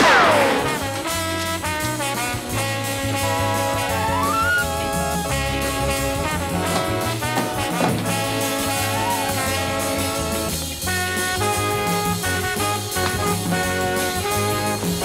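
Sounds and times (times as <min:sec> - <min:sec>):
swing music with brass and bass: 0:00.0 - 0:15.0.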